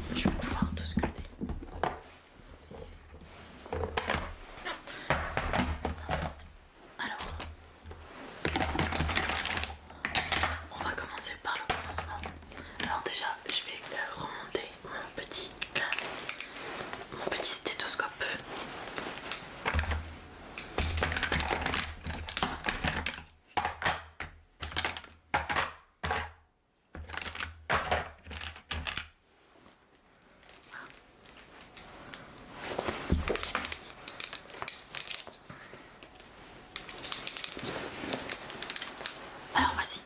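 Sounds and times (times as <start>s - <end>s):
objects crinkling and rustling: 0.0s - 40.0s.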